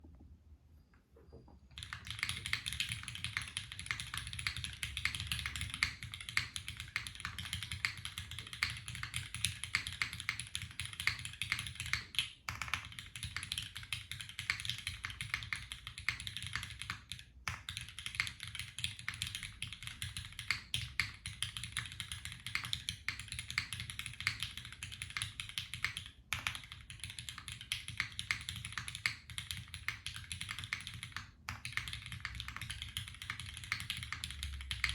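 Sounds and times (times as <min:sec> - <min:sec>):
fast typing on mechanical keyboard: 0:01.7 - 0:34.9.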